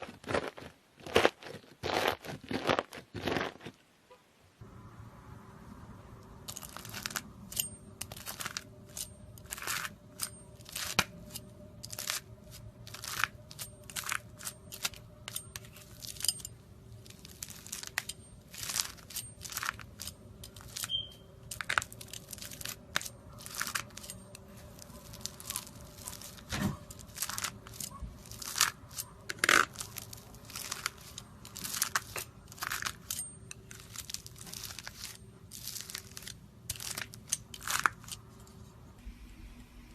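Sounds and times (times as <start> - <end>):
knife crunching through slime: 0.0 - 3.7, 8.0 - 16.4, 17.0 - 38.2.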